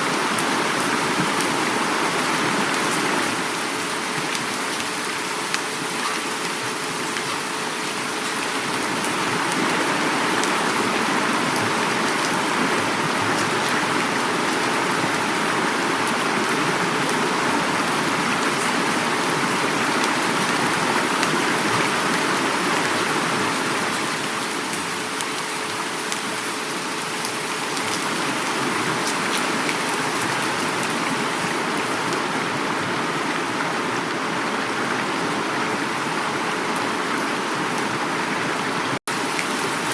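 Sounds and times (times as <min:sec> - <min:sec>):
heavy rain falling: 0:00.0 - 0:39.9
river water rushing: 0:00.0 - 0:39.9.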